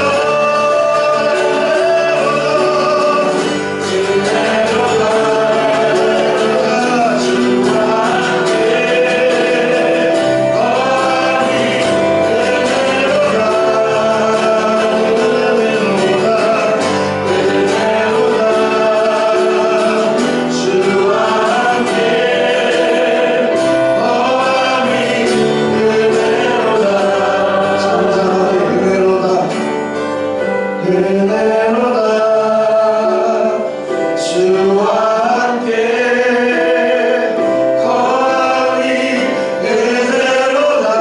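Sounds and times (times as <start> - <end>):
choir singing gospel song: 0.0 - 41.0
instrumental accompaniment: 0.0 - 41.0.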